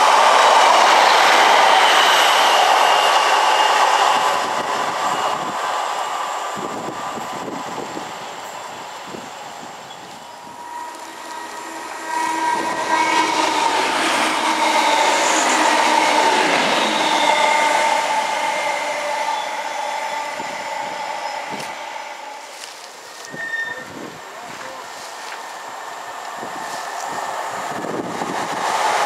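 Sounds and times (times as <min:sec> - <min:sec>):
diesel train passing with hum: 0:00.0 - 0:29.0.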